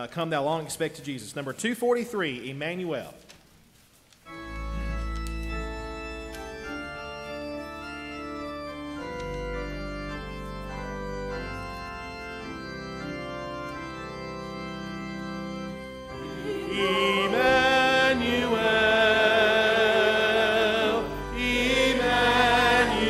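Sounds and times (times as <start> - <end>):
church organ chords: 4.3 - 23.0.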